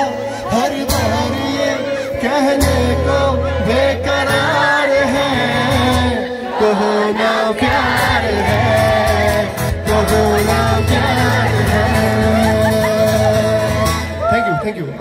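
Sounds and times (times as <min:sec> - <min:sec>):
man singing through a pa: 0:00.0 - 0:14.1
strummed acoustic guitar: 0:00.0 - 0:14.2.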